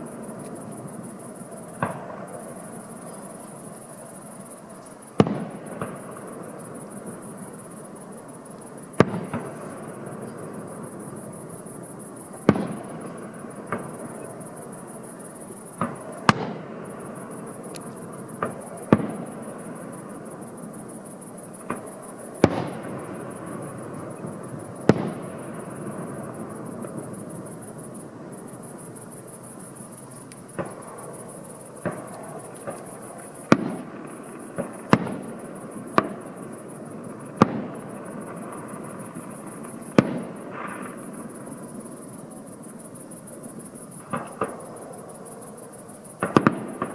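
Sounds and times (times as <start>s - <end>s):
fireworks bursting with bangs: 0.0s - 46.9s
steady background hiss: 0.0s - 46.9s.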